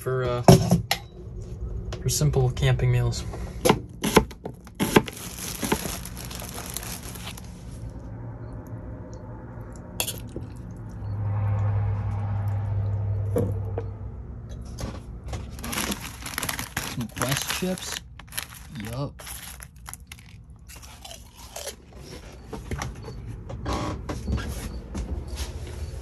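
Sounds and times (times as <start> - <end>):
low steady hum: 0.0 - 23.6.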